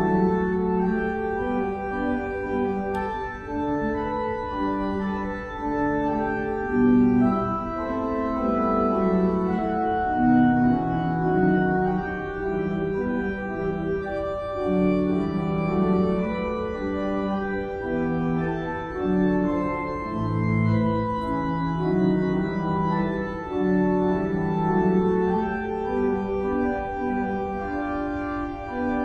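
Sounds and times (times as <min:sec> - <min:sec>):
pipe organ playing chords: 0:00.0 - 0:29.0.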